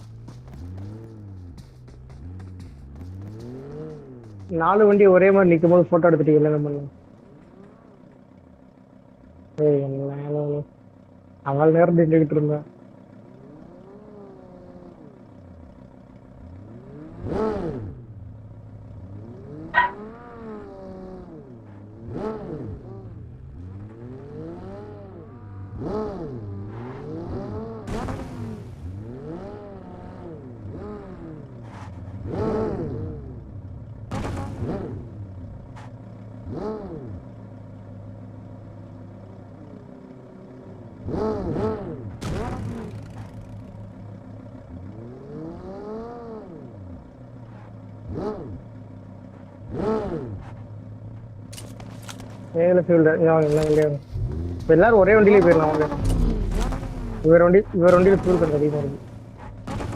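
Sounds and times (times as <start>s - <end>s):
steady engine hum: 0.0s - 59.9s
vehicles passing: 0.0s - 59.9s.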